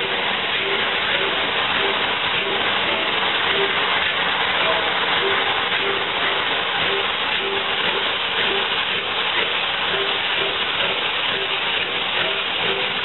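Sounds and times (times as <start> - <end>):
steam train running: 0.0 - 13.0.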